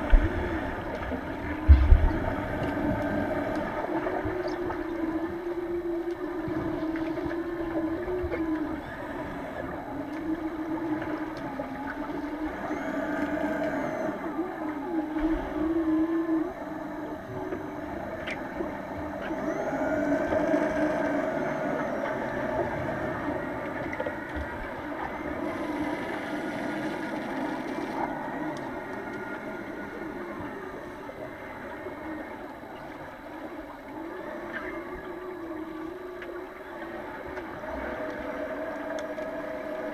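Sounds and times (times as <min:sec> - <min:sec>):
faint clicks: 0:00.0 - 0:39.9
moaning hum-like tones: 0:00.0 - 0:39.9
muffled underwater rumble: 0:00.0 - 0:39.9.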